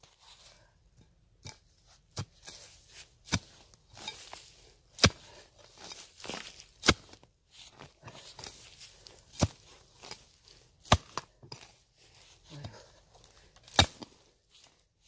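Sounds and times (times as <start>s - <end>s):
digging tool striking soil: 1.4s - 14.3s
tool scraping soil: 1.4s - 15.0s
dry grass rustling: 1.8s - 15.0s.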